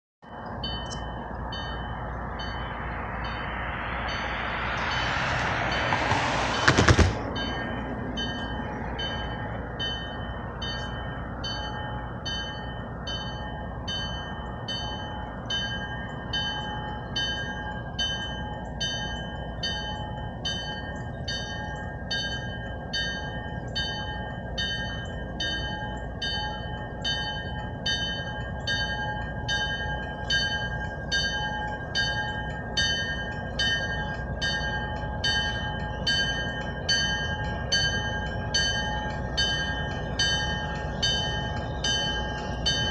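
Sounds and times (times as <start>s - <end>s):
crossing bell ringing: 0.2s - 5.9s, 7.3s - 42.9s
diesel locomotive rumble: 0.2s - 42.9s.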